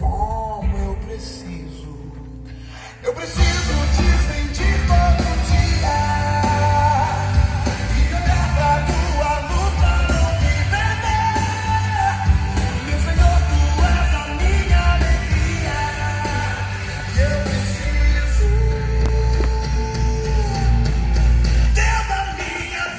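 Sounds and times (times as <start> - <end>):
song with vocal and band: 0.0 - 22.9
heavy bass: 3.4 - 22.9.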